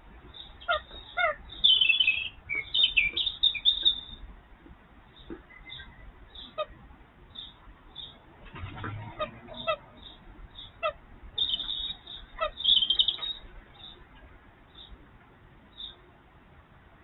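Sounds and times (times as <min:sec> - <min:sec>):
birds chirping and calling: 0:00.2 - 0:04.3, 0:05.1 - 0:15.0, 0:15.7 - 0:16.1.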